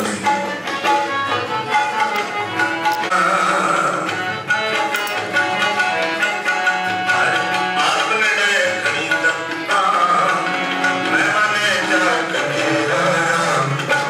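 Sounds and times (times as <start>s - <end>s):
tabla drumming: 0.0s - 14.0s.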